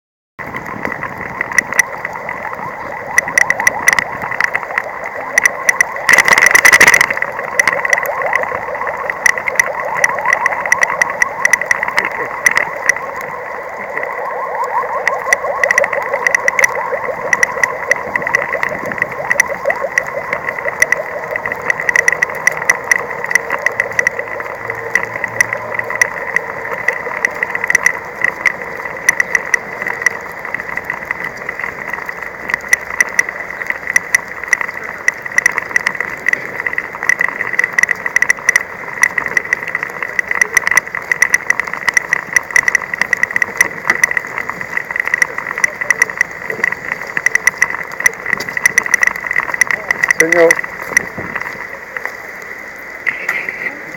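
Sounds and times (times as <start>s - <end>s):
high irregular clicking: 0.4s - 53.9s.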